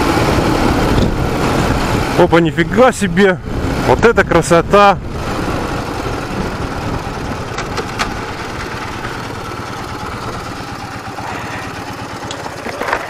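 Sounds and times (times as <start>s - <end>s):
motorcycle engine running: 0.0s - 4.0s, 4.7s - 13.0s.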